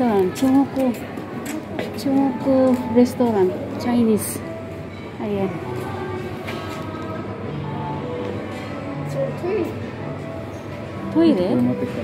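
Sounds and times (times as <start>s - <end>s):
music with held notes: 0.0s - 12.0s
shopping mall background noise: 0.0s - 12.0s.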